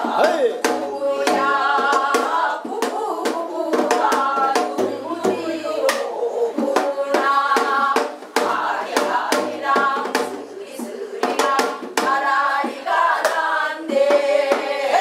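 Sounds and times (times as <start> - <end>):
group singing folk song: 0.0 - 15.0.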